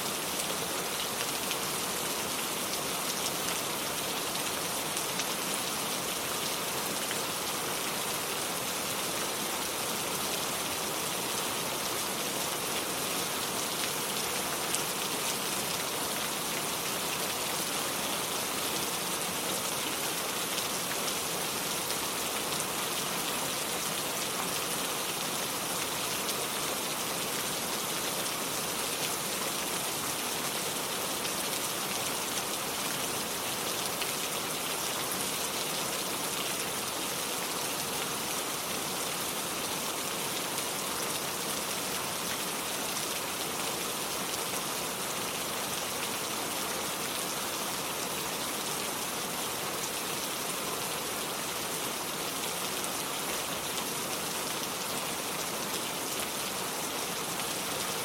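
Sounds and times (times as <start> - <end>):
rain on porch and lake: 0.0 - 58.0.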